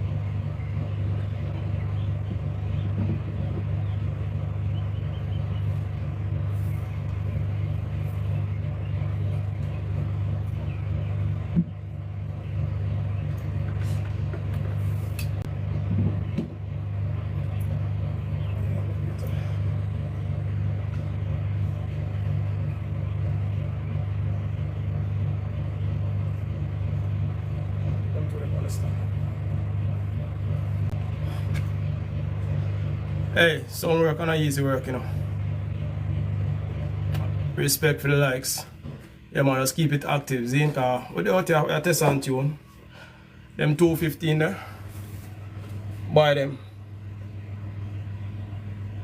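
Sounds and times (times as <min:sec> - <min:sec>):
sound system hum: 0:00.0 - 0:49.0.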